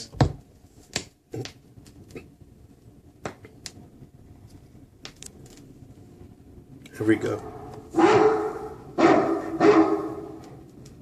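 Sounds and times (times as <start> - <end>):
vinyl surface noise hiss: 0.0 - 11.0.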